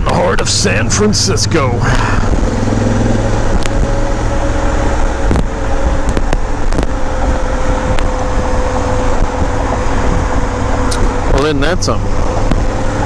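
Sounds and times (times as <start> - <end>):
motorcycle engine running: 0.0 - 13.0
road and traffic noise: 0.0 - 13.0.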